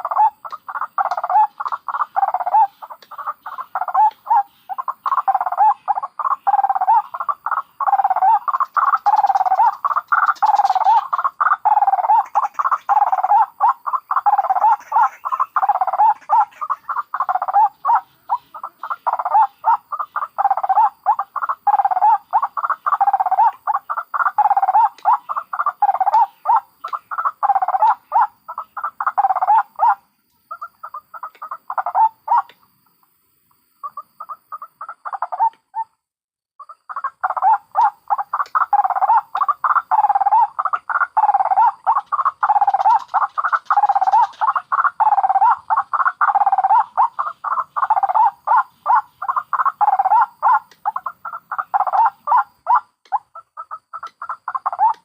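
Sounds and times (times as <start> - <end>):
waterhens cackling calls: 0.0 - 32.7, 33.8 - 35.9, 36.6 - 55.0.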